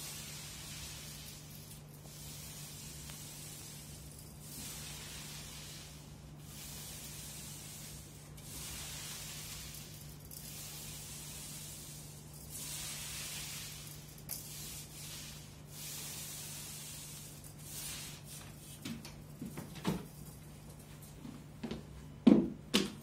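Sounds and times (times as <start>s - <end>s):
paint roller hissing on wall: 0.0s - 21.1s.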